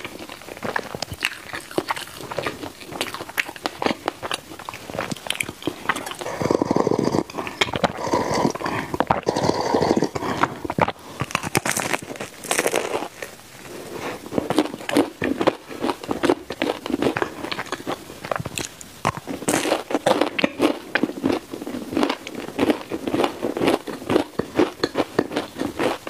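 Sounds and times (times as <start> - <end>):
chewing bread: 0.0 - 26.0.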